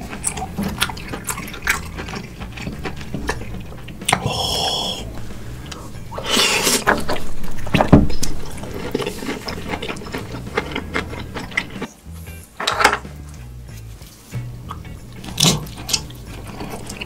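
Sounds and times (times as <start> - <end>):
background music with bass: 0.0 - 17.0.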